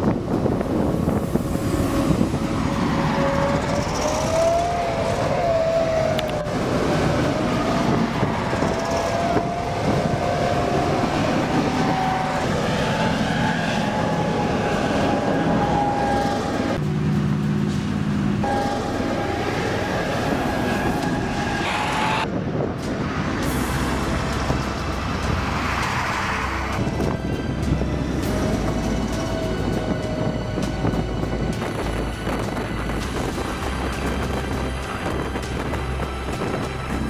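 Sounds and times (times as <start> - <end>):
armoured vehicles rumbling past: 0.0 - 37.0
rising engine whine: 0.0 - 37.0.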